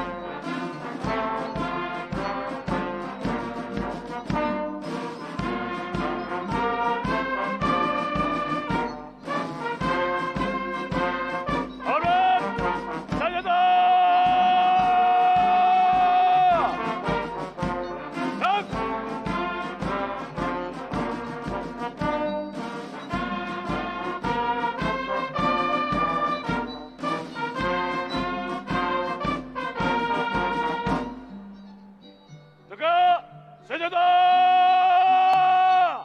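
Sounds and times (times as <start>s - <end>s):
brass band music: 0.0s - 31.4s.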